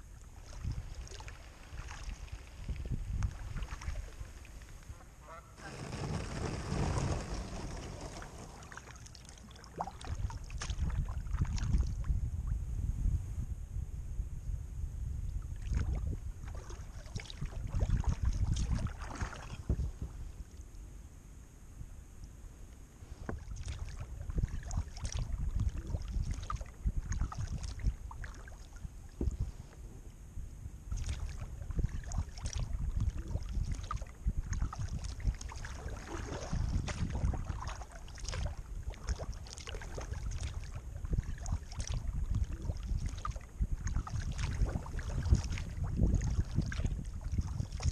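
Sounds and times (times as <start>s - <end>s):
wind rumble on microphone: 0.0s - 47.9s
paddle splashes and drips: 0.1s - 12.1s, 15.5s - 20.6s, 23.2s - 29.4s, 30.9s - 47.9s.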